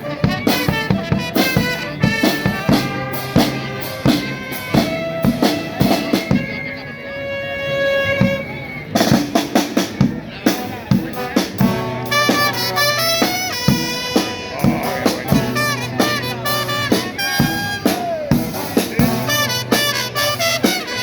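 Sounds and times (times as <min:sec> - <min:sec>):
drums with bass drum: 0:00.0 - 0:06.7, 0:08.0 - 0:21.0
brass and reed instruments: 0:00.0 - 0:21.0.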